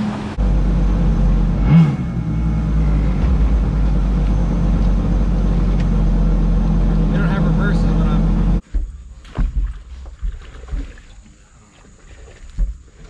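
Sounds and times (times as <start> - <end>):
jet boat engine rumbling: 0.0 - 13.0.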